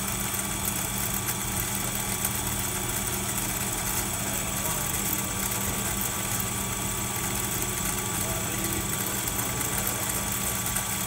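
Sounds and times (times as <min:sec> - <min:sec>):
line-spooling machine humming: 0:00.0 - 0:11.0.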